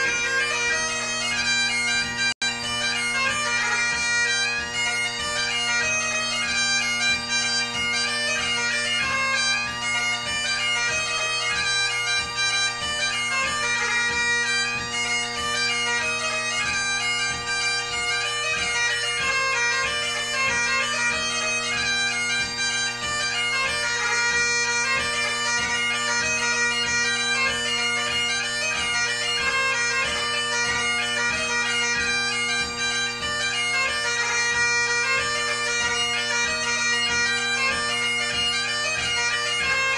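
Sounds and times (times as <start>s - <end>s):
solo bagpipe tune: 0.0s - 39.9s.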